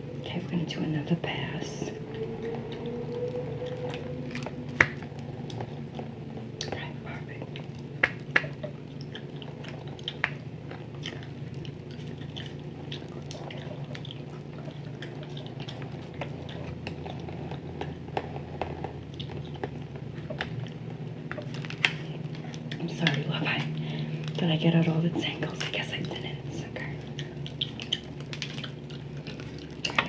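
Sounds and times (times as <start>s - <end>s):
steady low hum: 0.0s - 30.0s
gum chewing clicks and smacks: 4.7s - 24.5s, 25.2s - 30.0s.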